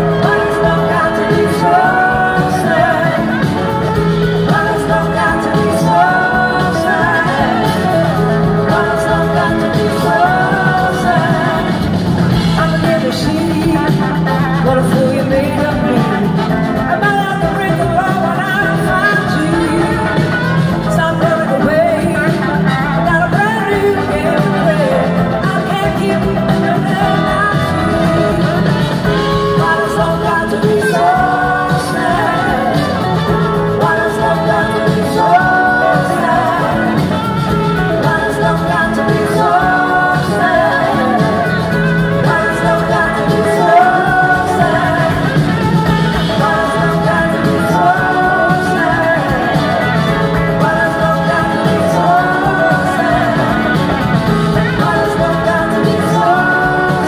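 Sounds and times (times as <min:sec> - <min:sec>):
blues rock band playing: 0:00.0 - 0:57.0
woman singing: 0:00.0 - 0:57.0.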